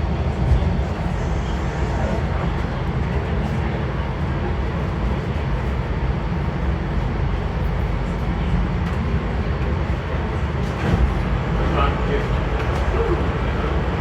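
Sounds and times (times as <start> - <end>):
subway train rumbling underground: 0.0 - 14.0.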